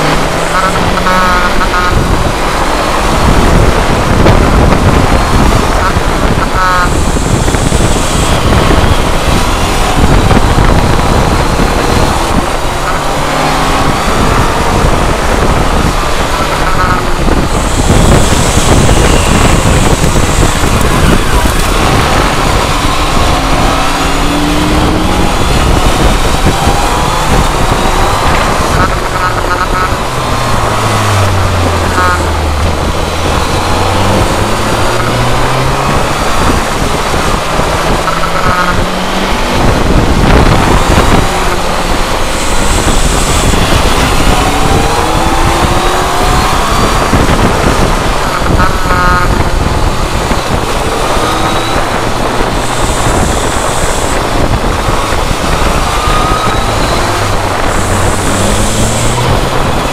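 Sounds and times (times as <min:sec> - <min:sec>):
motorcycle engine accelerating: 0:00.0 - 0:59.9
wind rushing over camera: 0:00.0 - 0:59.9.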